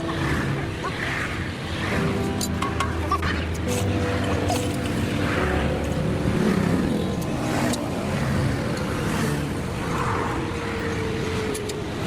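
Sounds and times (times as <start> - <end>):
vehicles passing by: 0.0 - 12.0.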